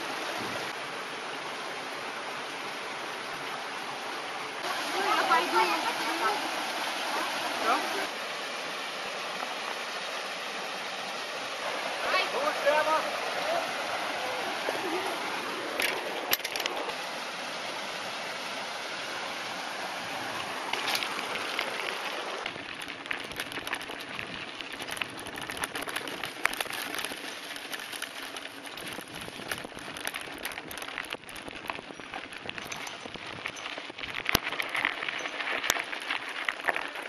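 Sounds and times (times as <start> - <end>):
bike tyres on gravel trail: 0.0 - 37.0
stream water rushing: 0.0 - 37.0.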